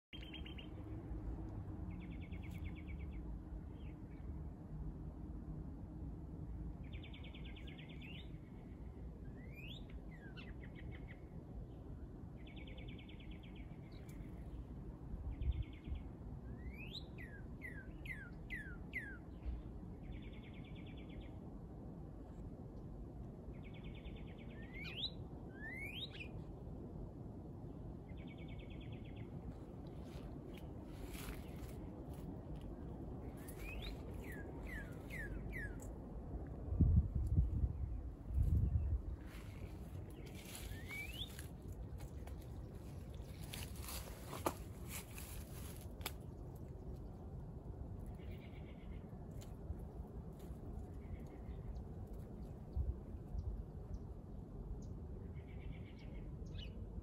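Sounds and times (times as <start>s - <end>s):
low background rumble: 0.1s - 57.0s.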